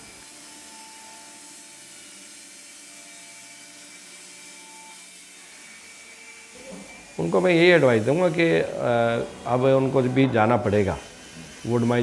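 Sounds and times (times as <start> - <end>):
band sawmill cutting log: 0.0 - 12.0.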